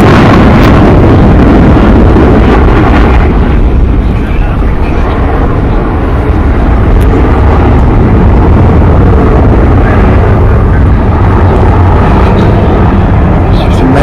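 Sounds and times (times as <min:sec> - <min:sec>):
jet aircraft rumble overhead: 0:00.0 - 0:14.0.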